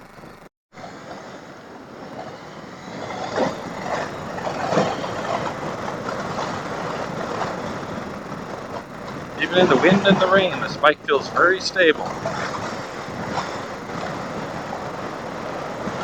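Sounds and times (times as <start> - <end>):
tyres on wet road: 0.8 - 16.0
wind buffeting microphone: 0.8 - 16.0.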